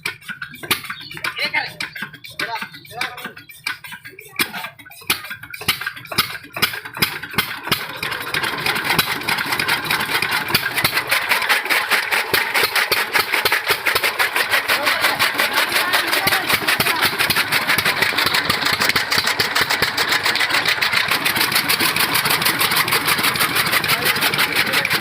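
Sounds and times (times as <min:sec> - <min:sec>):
diesel engine starting and running: 0:00.0 - 0:25.0.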